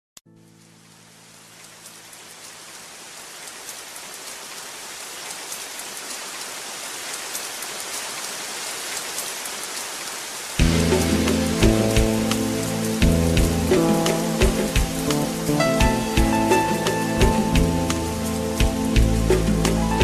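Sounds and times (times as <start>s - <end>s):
rain drops ticking: 0.3s - 20.0s.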